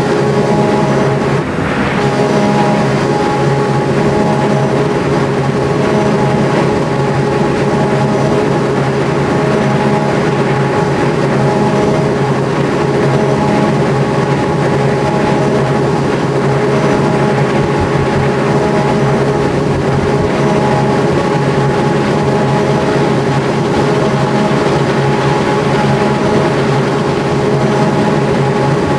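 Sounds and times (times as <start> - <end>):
car engine droning steadily: 0.0 - 28.9.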